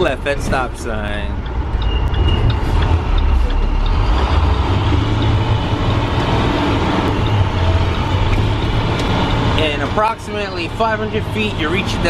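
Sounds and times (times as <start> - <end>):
bus engine rumbling: 0.0 - 12.0
road noise: 0.0 - 12.0.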